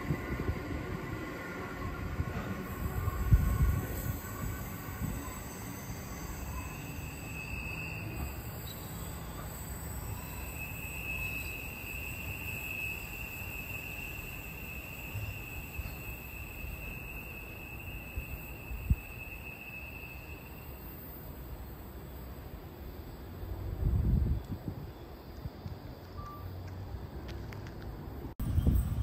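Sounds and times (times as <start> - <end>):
wheels squealing on rails: 0.0 - 24.2, 28.4 - 29.0
distant train rumble: 0.0 - 29.0.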